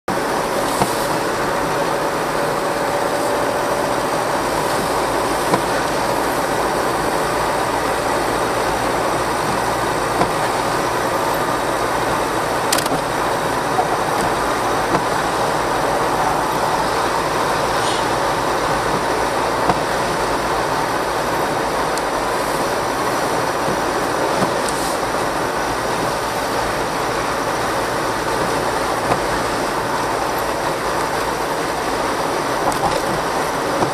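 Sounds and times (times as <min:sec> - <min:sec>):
car road and engine noise: 0:00.1 - 0:33.9
tyres on wet road: 0:00.1 - 0:33.9.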